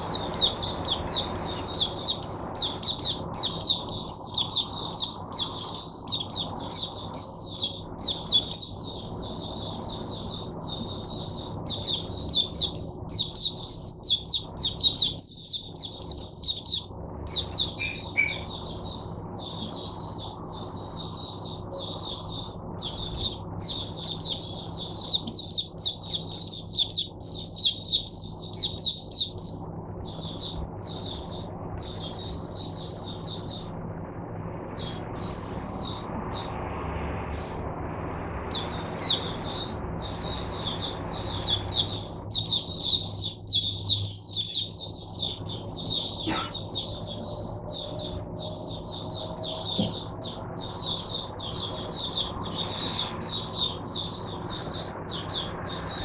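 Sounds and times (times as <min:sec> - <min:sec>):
bird twittering song: 0:00.0 - 0:33.8, 0:34.7 - 0:36.6, 0:37.3 - 0:37.7, 0:38.5 - 0:56.0
faint low hum: 0:00.0 - 0:56.0.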